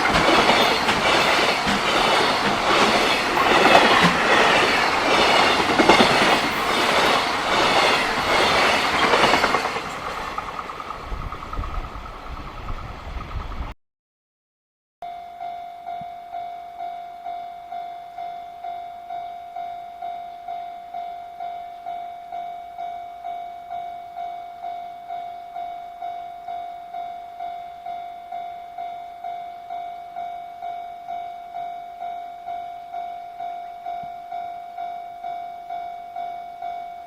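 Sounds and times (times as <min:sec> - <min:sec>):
level crossing warning bell: 0:00.0 - 0:11.0, 0:15.1 - 0:37.0.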